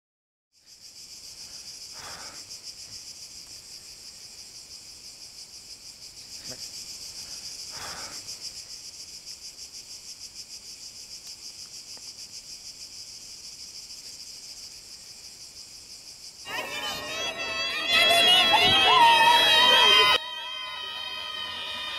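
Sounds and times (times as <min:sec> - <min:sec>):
cicadas buzzing: 0:00.6 - 0:21.9.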